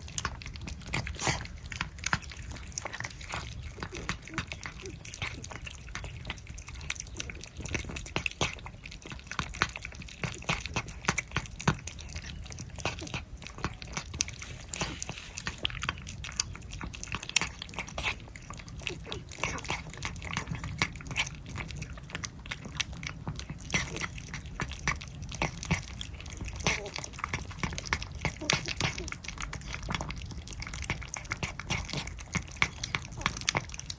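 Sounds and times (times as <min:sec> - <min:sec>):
cats licking and smacking: 0:00.0 - 0:33.9.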